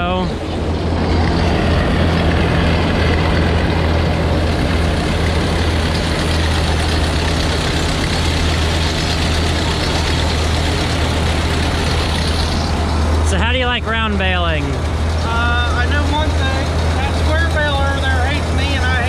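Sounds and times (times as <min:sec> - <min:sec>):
baler mechanical noise: 0:00.0 - 0:19.0
tractor engine running: 0:00.0 - 0:19.0.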